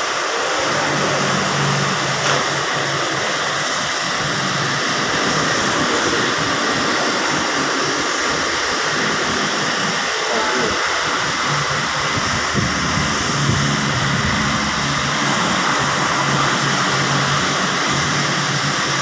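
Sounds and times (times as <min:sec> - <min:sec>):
loud rush of blowing air: 0:00.0 - 0:19.0.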